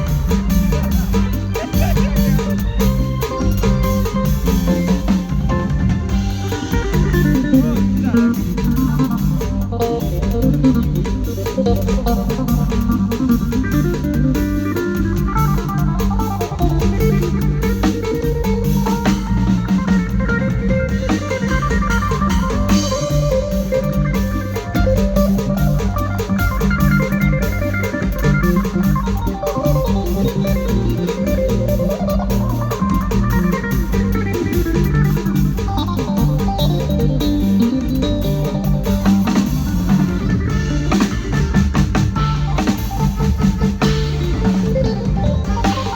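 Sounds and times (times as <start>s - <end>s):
bass line: 0.0s - 45.9s
drum kit: 0.0s - 45.9s
guitar melody: 0.0s - 45.9s
organ-like keyboard: 0.0s - 45.9s.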